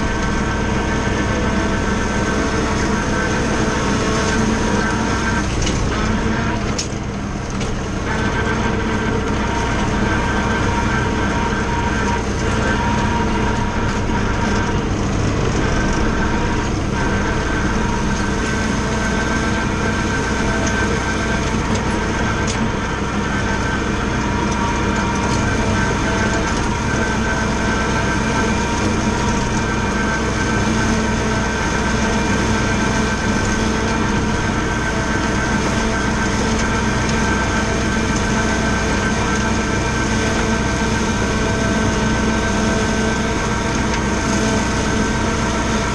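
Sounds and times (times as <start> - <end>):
flail mower cutting grass: 0.0 - 45.9
tractor diesel engine running: 0.0 - 45.9.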